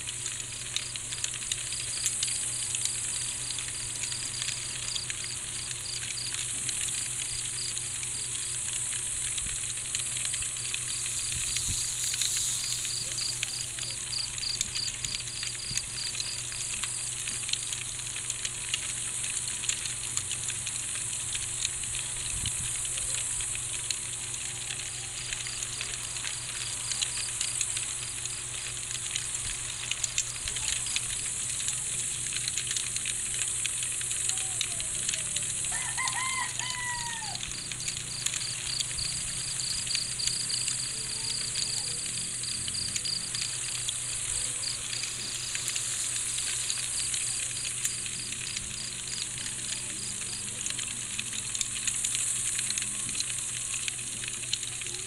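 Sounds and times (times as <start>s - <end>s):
pulsing cricket trill: 0.3s - 17.8s, 24.4s - 54.8s
high hiss of insects: 1.5s - 17.8s, 20.7s - 55.0s.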